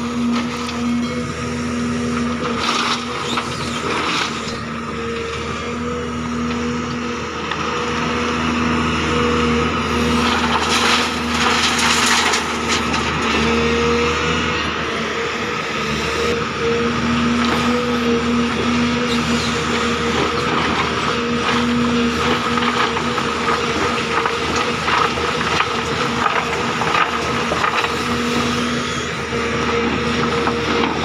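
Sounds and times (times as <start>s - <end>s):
excavator engine and hydraulics: 0.0s - 31.0s.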